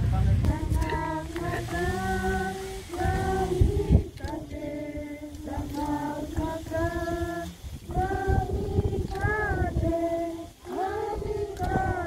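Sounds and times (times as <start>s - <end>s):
children and women singing: 0.4s - 12.0s.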